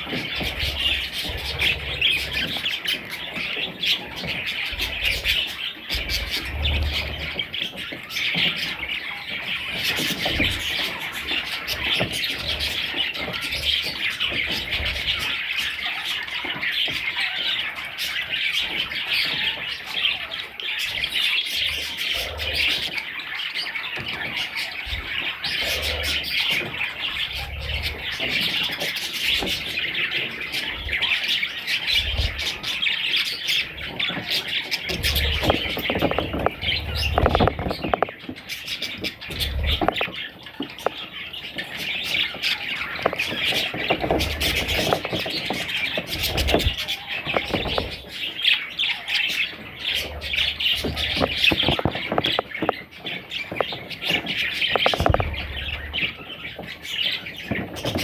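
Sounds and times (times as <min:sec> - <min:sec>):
budgerigars chirping and squawking: 0:00.0 - 0:58.0.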